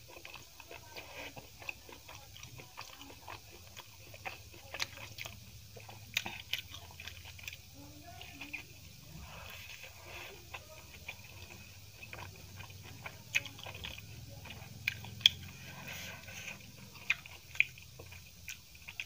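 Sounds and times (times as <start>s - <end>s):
wet chewing: 0.0s - 19.0s.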